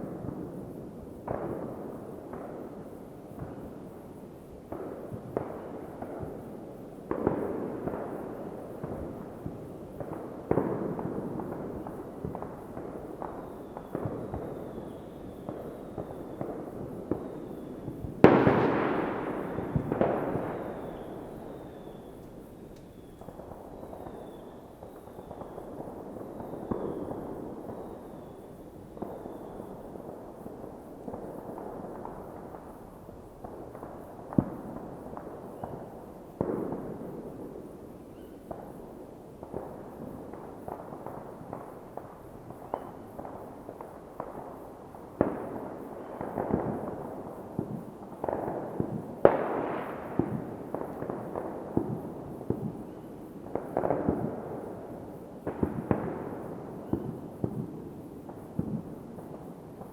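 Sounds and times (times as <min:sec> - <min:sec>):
rumble of distant fireworks: 0:00.0 - 0:59.9.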